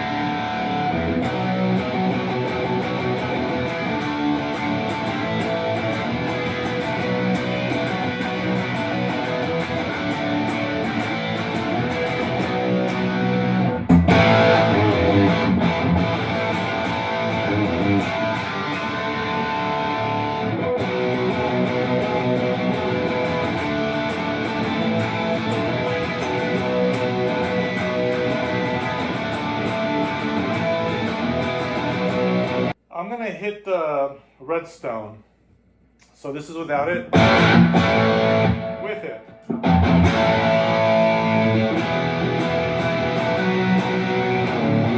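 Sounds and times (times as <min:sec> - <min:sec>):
overdriven electric guitar: 0:00.0 - 0:32.8, 0:37.1 - 0:44.9.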